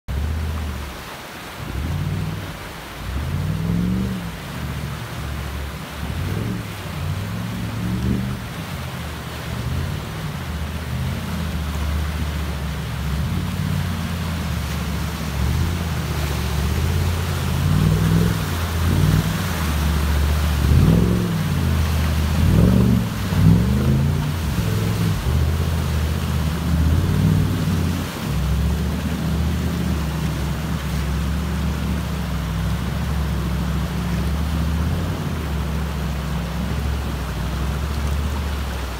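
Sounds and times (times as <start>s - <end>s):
river rushing and splashing: 0.1s - 38.9s
buggy engine revving: 1.6s - 38.9s.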